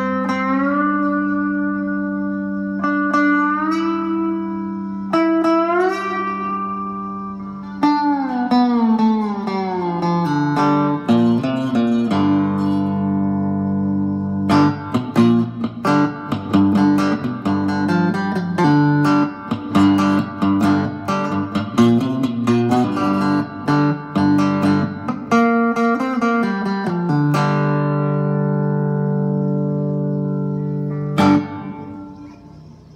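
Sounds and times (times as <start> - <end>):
slide guitar: 0.0 - 32.9.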